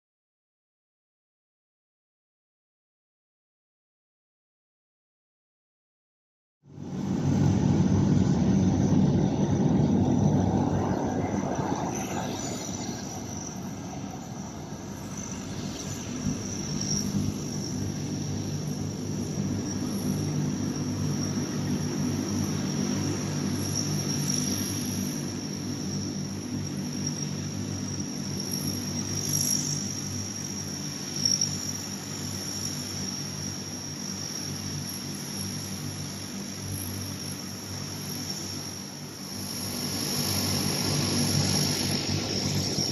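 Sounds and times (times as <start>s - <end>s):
propeller aircraft engines droning: 6.7s - 42.9s.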